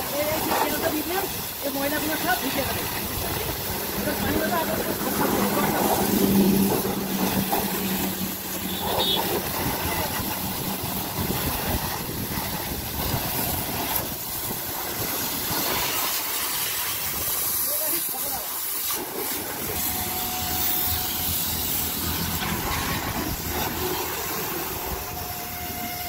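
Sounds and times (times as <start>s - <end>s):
pressure washer motor humming: 0.0s - 26.0s
pressure washer water jet hissing: 0.0s - 26.0s.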